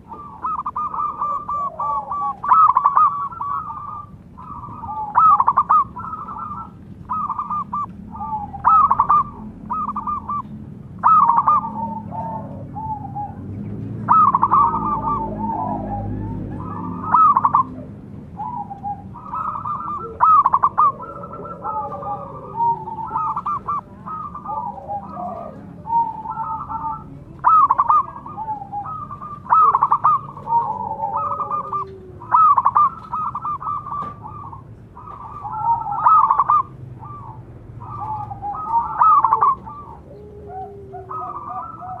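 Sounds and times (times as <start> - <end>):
doves cooing: 0.0 - 42.0.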